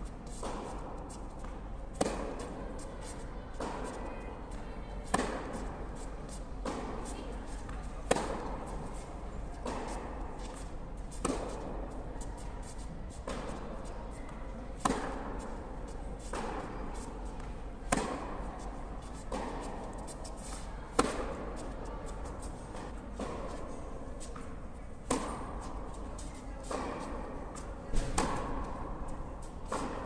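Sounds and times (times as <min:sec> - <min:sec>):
tennis rackets hitting ball: 0:00.3 - 0:04.0, 0:05.0 - 0:09.0, 0:09.6 - 0:13.7, 0:14.8 - 0:30.0.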